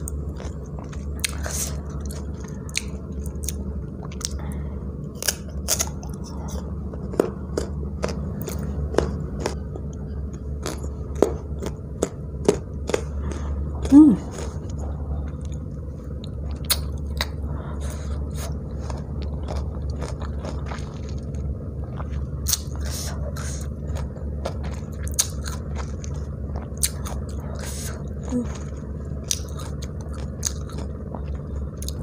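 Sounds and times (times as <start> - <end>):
chewing crunchy fruit: 0.0 - 32.0
steady low hum: 0.0 - 32.0.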